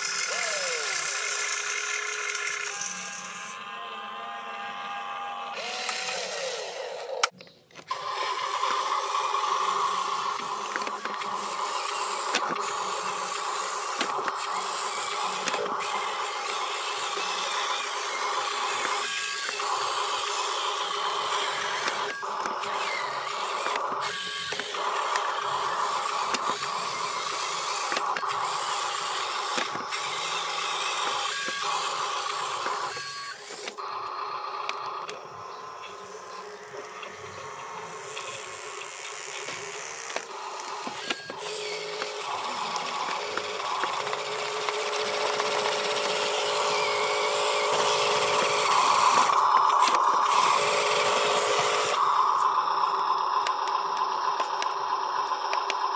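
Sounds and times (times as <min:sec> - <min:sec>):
small electric motor whining: 0:00.0 - 0:55.9.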